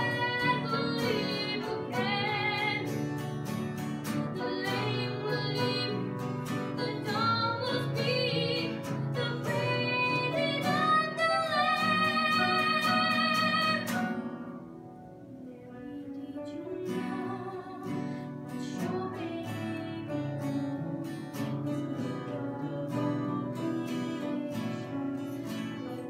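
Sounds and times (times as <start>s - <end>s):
woman singing a hymn: 0.0s - 3.0s, 4.2s - 14.3s, 15.4s - 26.0s.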